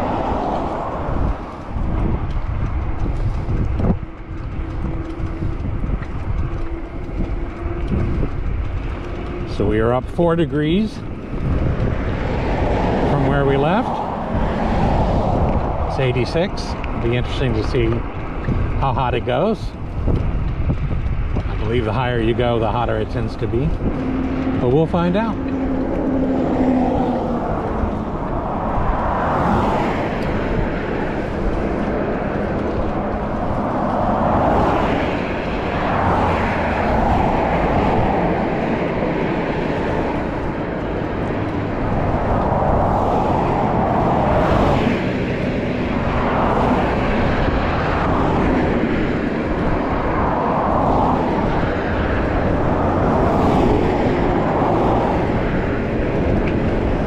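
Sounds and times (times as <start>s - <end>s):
passing vehicles: 0.0s - 57.0s
wind rushing over microphone: 0.0s - 57.0s.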